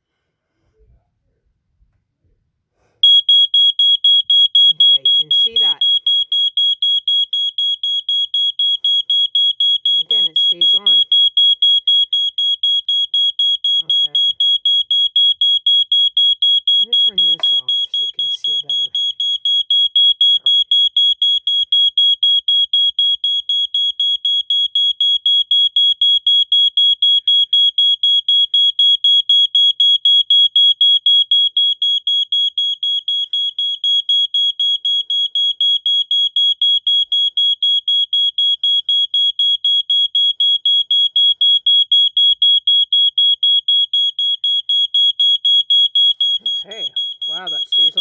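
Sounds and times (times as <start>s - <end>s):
smoke detector alarm beeping: 3.0s - 48.0s.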